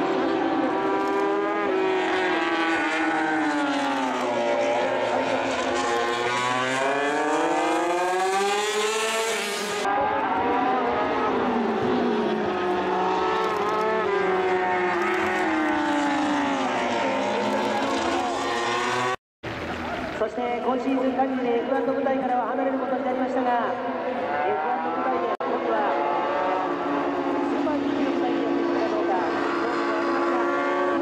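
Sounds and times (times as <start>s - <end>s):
race motorcycle engines: 0.0s - 31.0s.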